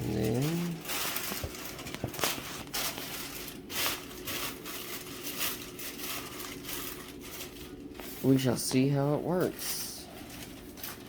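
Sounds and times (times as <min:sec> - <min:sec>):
rustling and scraping handling noise: 0:00.0 - 0:11.0.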